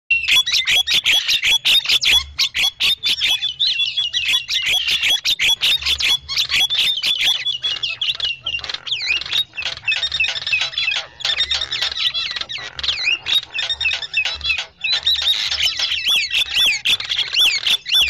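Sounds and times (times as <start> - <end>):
mynas calling: 0.1 - 18.0.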